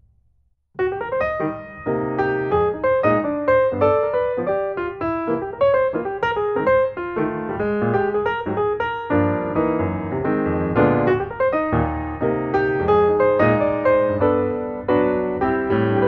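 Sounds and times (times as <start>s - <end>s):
piano music: 0.8s - 16.0s.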